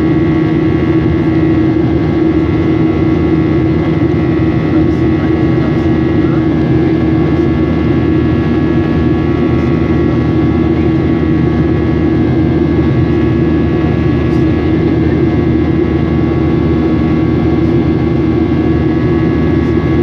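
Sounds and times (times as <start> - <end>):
jet engine cabin drone: 0.0 - 20.0.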